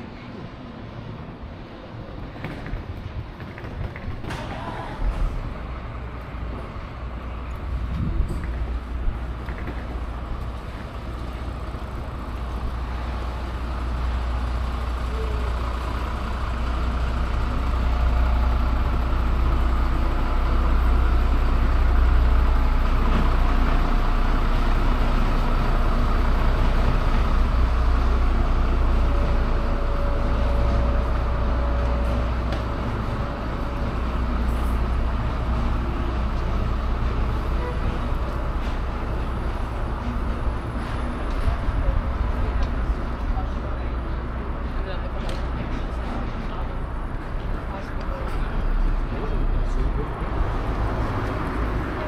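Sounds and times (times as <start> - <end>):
engine droning: 4.4 - 52.0.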